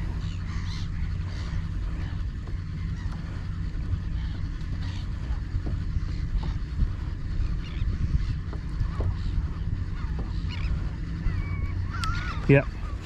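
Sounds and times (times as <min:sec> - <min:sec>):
seabirds calling: 0:00.0 - 0:13.0
wind and water rumble: 0:00.0 - 0:13.0.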